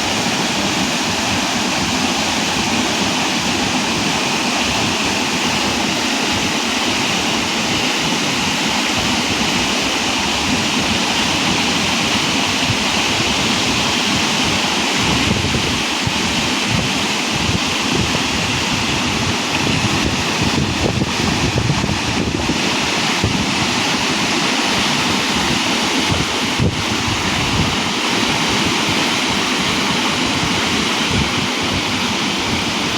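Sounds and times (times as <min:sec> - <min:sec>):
waterfall rushing: 0:00.0 - 0:32.9
wind buffeting microphone: 0:00.0 - 0:32.9.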